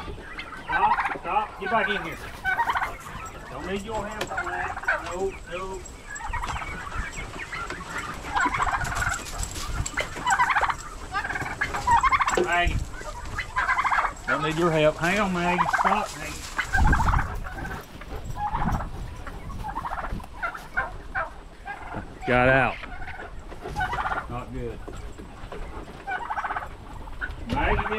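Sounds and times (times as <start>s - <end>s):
turkeys gobbling: 0.0s - 27.9s.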